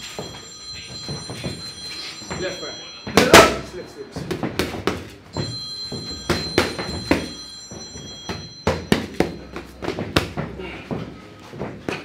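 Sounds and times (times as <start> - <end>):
high ringing tone: 0.0 - 10.4.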